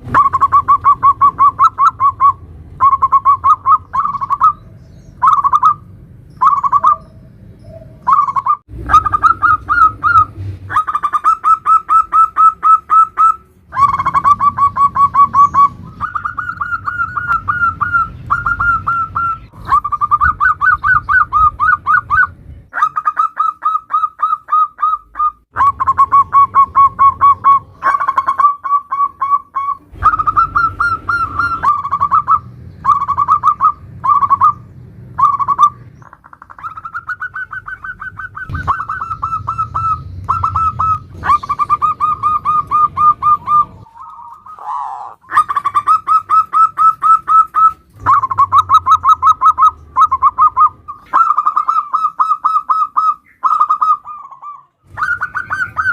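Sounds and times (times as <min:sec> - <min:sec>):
dove cooing rapidly: 0:00.0 - 0:55.9.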